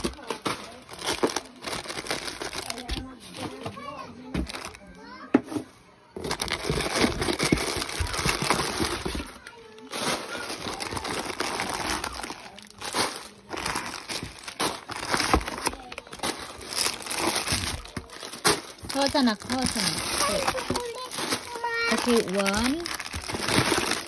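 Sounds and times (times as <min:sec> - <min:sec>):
plastic packets crinkling in a box: 0:00.0 - 0:05.0, 0:06.1 - 0:24.0.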